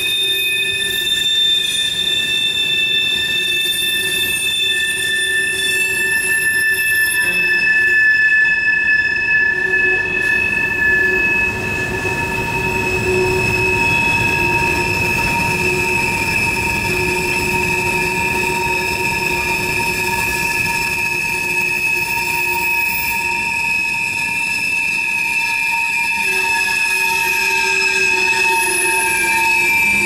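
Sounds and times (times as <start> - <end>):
railcars rolling rumble: 0.0 - 30.0
train wheels squealing: 0.0 - 30.0.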